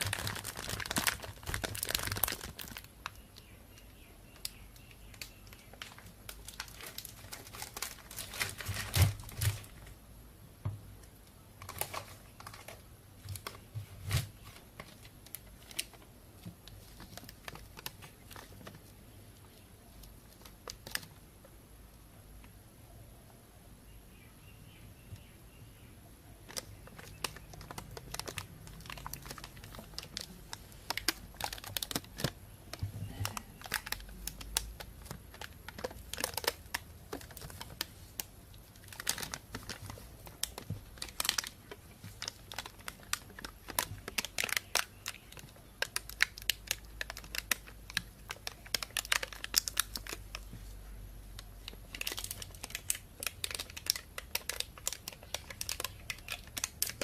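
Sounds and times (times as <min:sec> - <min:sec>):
plastic bag crinkling: 0:00.0 - 0:03.5, 0:04.4 - 0:09.9, 0:11.6 - 0:18.9, 0:20.0 - 0:21.2, 0:26.5 - 0:50.6, 0:51.3 - 0:57.0.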